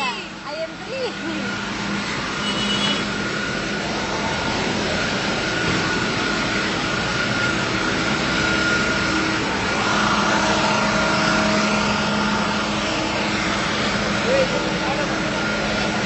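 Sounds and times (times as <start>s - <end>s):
outdoor noise: 0.0s - 16.0s
steady engine drone: 0.0s - 16.0s
thin high whine: 0.0s - 16.0s.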